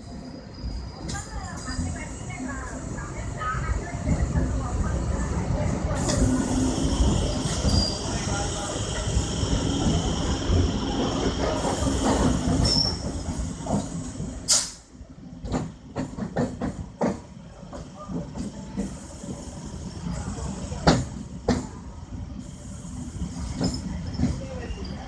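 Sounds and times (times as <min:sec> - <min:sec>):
train rail rumble: 0:00.0 - 0:25.0.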